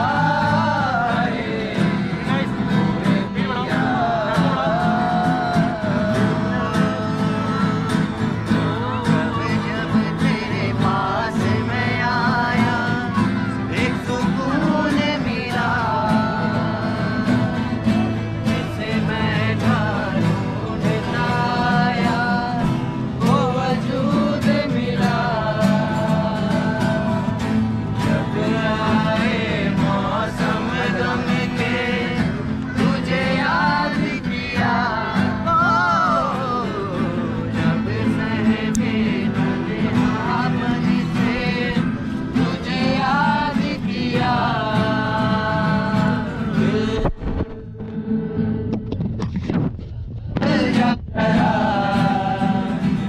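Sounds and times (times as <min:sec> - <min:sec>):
young men singing together: 0:00.0 - 0:48.7, 0:50.3 - 0:53.0
strummed acoustic guitars: 0:00.0 - 0:53.0.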